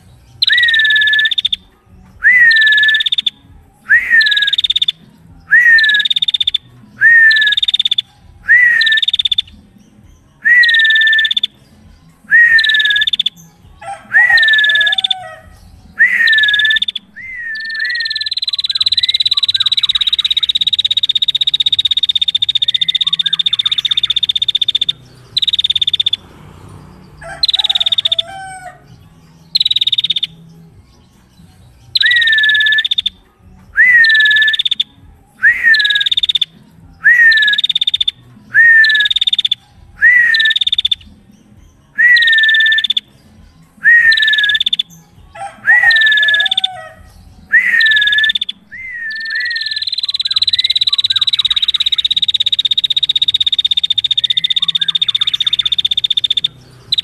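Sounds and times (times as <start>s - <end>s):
bird buzzing trill: 0.0s - 11.6s, 12.3s - 30.4s, 31.8s - 41.2s, 42.0s - 57.0s
bird sharp chirps: 0.0s - 57.0s.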